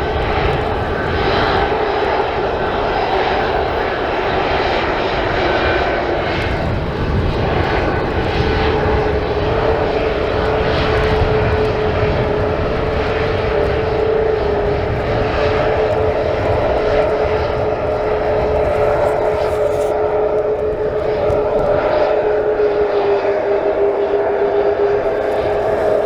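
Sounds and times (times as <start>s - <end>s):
jet engines roaring with whine: 0.0s - 26.0s
wind rumbling on microphone: 0.0s - 26.0s.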